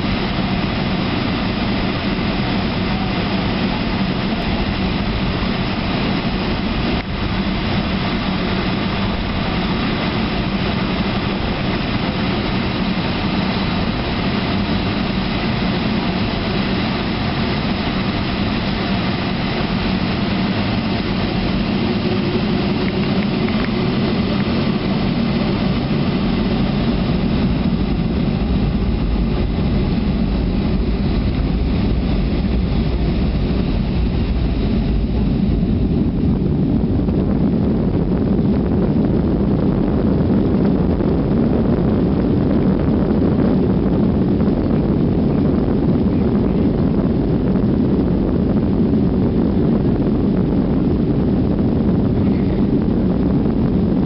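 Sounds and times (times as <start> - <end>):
jet engines humming in cabin: 0.0 - 54.0.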